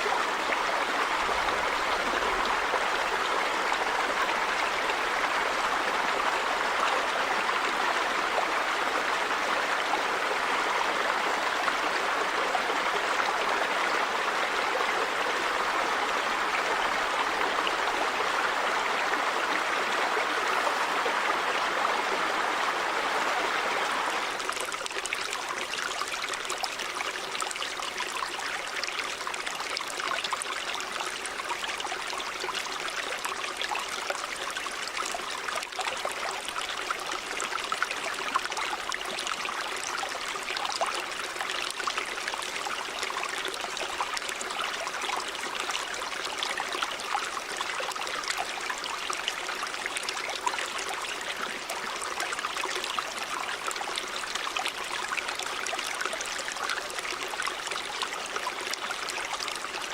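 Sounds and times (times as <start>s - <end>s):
river water running over rocks: 0.0s - 59.9s.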